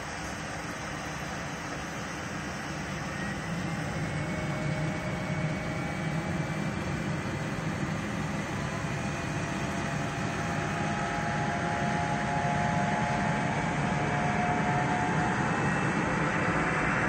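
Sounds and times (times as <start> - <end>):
distant jet engines running: 0.0 - 17.0.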